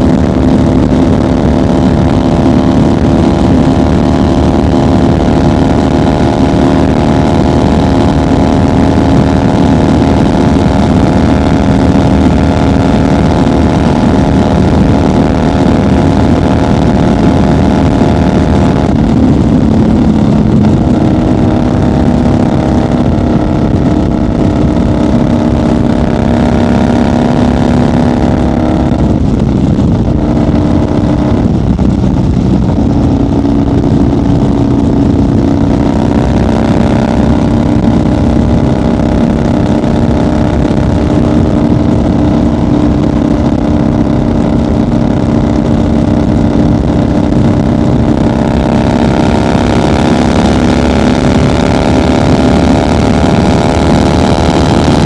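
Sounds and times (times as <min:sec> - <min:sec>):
motorcycle engine and exhaust cruising: 0:00.0 - 0:55.0.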